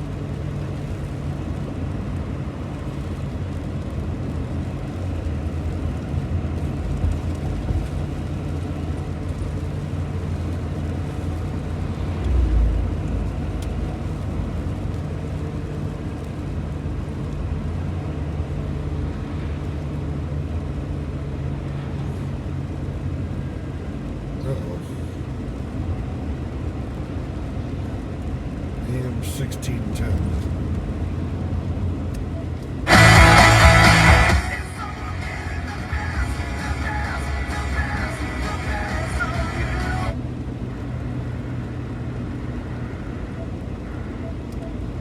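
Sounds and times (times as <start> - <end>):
vehicle engine hum: 0.0 - 45.0.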